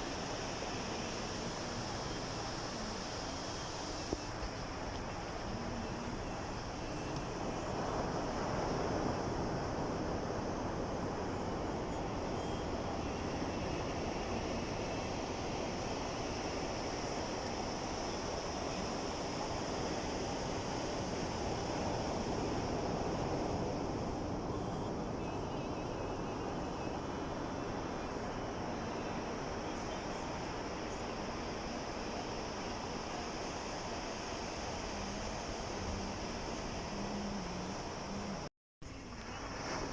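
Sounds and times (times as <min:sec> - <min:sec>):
sea waves breaking on shore: 0:00.0 - 0:39.9
surf rushing: 0:00.0 - 0:39.9.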